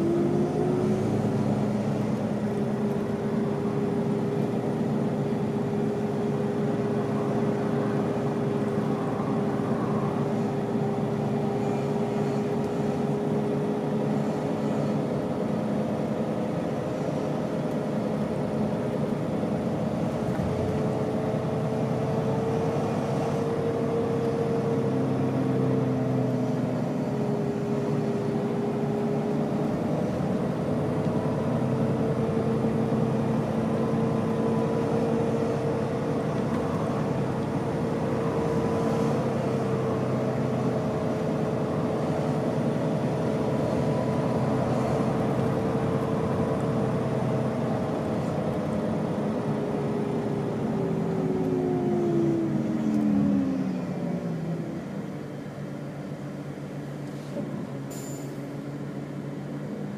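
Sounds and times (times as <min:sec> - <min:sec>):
bus diesel engine whine: 0:00.0 - 0:59.9.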